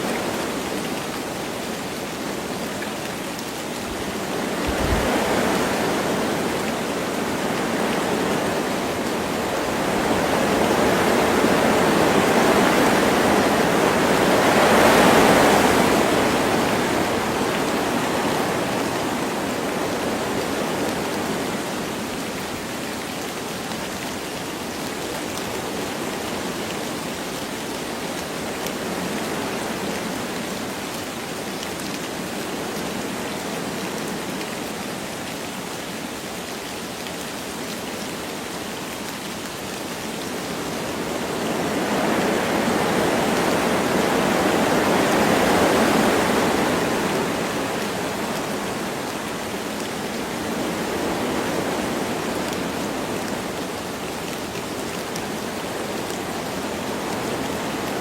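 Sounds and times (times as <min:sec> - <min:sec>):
light rain falling: 0:00.0 - 0:58.0
wind through trees: 0:00.0 - 0:58.0.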